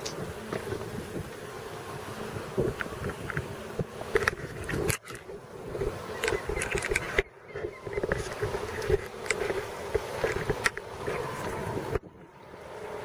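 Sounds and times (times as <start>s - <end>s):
wind on microphone: 0.0s - 12.7s
distant watercraft engine droning: 0.0s - 13.0s.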